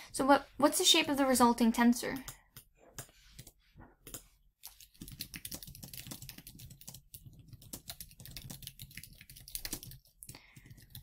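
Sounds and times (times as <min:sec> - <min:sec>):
typing on computer keyboard: 0:02.1 - 0:11.0.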